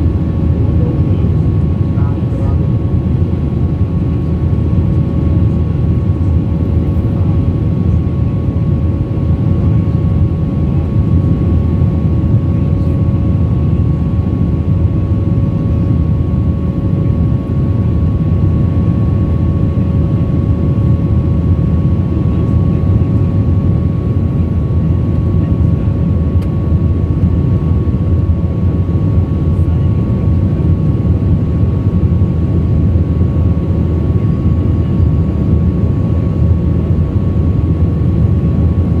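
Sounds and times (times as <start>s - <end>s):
jet engine rumble in cabin: 0.0s - 39.0s
steady hum: 0.0s - 39.0s.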